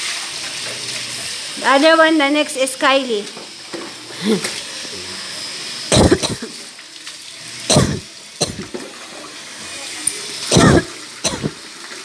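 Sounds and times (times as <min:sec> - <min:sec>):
water splashing on tiled floor: 0:00.0 - 0:12.0.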